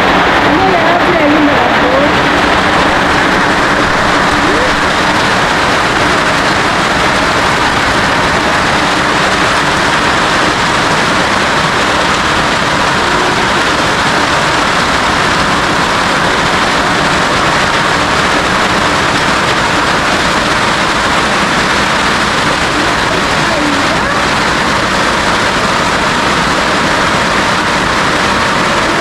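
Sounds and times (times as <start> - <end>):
heavy rain on a roof: 0.0 - 29.0.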